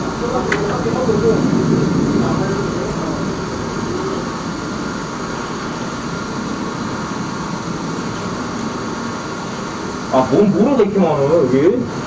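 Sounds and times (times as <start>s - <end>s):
drain jetter spraying water: 0.0s - 12.0s.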